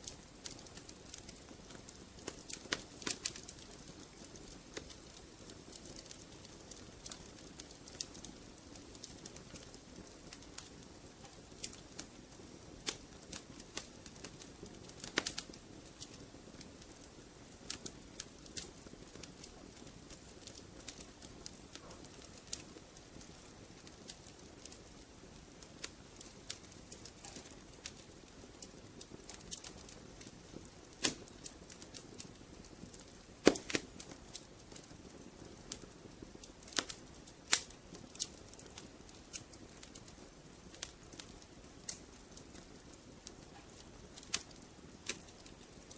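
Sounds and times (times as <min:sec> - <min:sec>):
fire crackling and popping: 0:00.0 - 0:45.9
soft steady hiss: 0:00.0 - 0:45.9.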